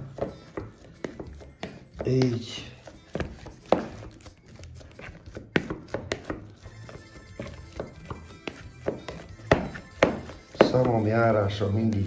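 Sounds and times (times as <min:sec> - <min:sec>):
quiet background music: 0:00.0 - 0:12.0
potato masher knocking in bowl: 0:00.2 - 0:12.0.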